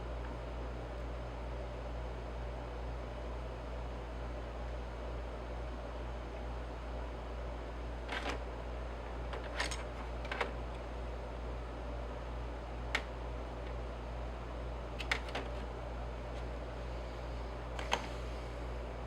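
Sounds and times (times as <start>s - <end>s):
steady low hum and hiss: 0.0s - 19.0s.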